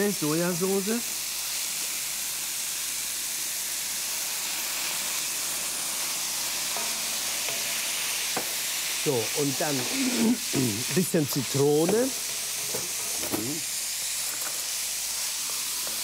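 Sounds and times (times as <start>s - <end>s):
vegetables sizzling in a wok: 0.0s - 16.0s.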